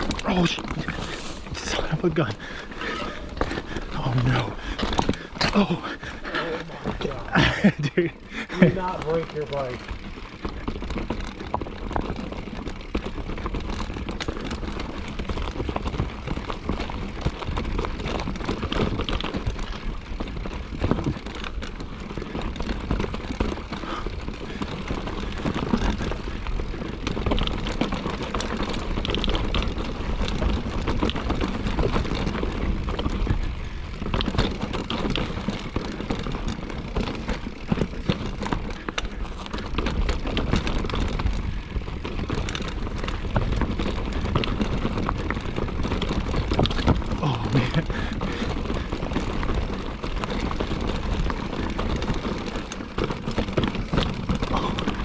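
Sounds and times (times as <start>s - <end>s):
bike knocks and rattles over rocks: 6.8s - 55.0s.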